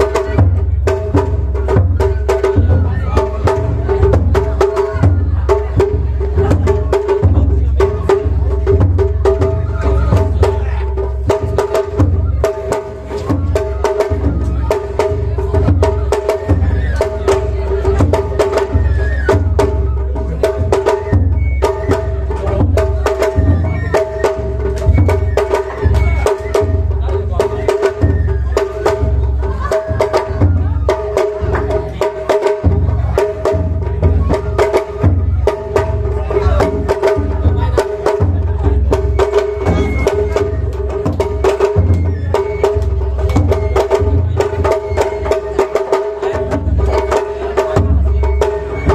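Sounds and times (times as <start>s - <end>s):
drums and wooden percussion: 0.0s - 48.9s.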